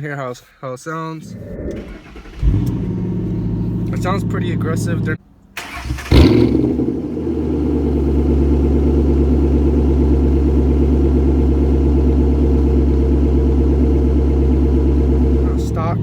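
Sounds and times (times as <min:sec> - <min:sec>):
car engine idling: 0:01.2 - 0:16.0.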